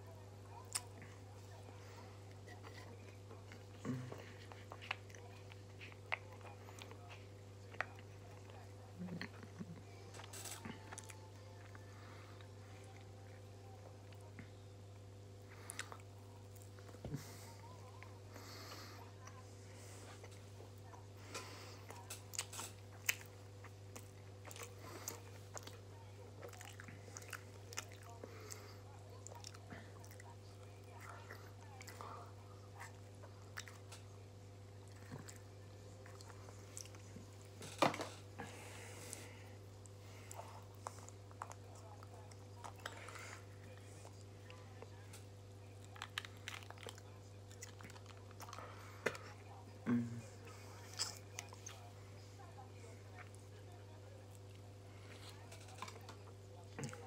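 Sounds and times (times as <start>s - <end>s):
steady low hum: 0.0s - 57.0s
person chewing food: 0.6s - 18.3s, 19.2s - 49.8s, 50.4s - 51.9s.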